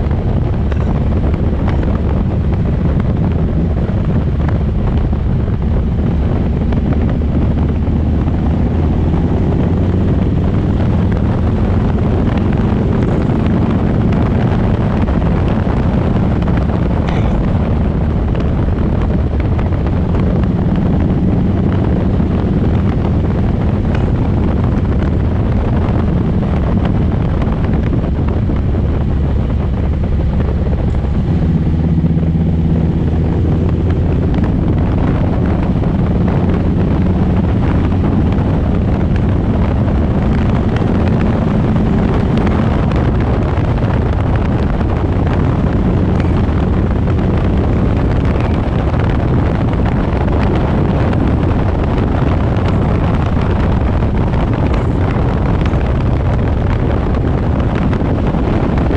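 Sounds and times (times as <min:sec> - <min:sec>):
motorcycle engine running: 0:00.0 - 0:58.9
wind rushing over microphone: 0:00.0 - 0:58.9.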